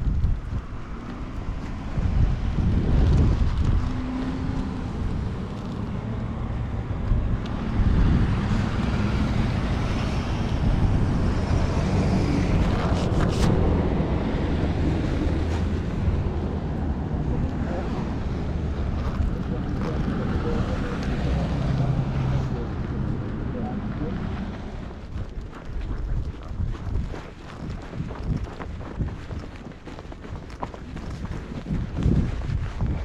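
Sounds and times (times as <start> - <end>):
rumble of cars: 0.0 - 33.0
wind buffeting microphone: 0.0 - 33.0.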